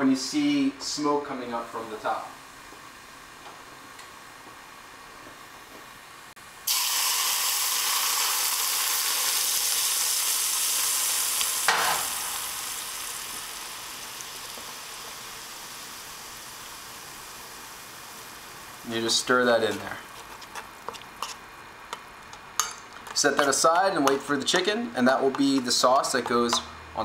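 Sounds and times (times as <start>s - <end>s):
hot oil sizzling: 3.0s - 26.2s.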